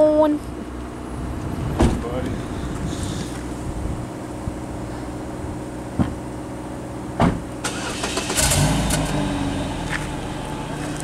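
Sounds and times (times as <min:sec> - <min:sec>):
car engine exhaust idling: 0:00.0 - 0:11.0.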